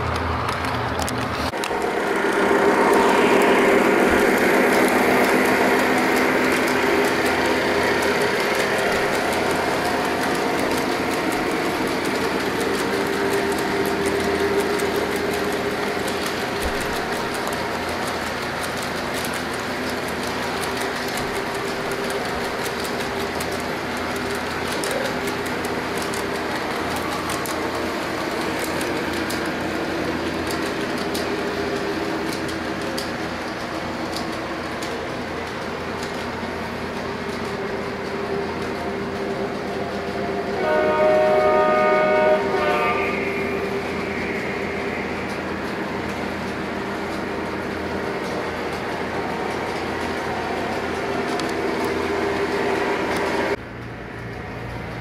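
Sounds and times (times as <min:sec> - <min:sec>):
model train wheels on rails: 0:00.0 - 0:55.0.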